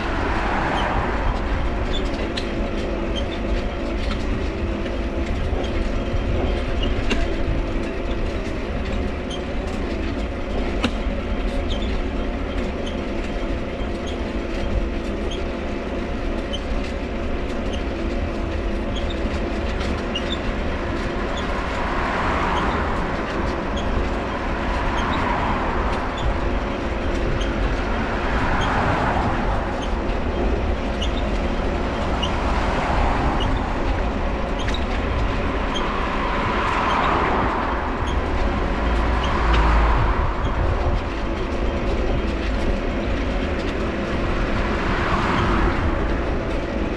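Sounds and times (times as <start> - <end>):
bicycle cranks squeaking: 0.0 - 46.9.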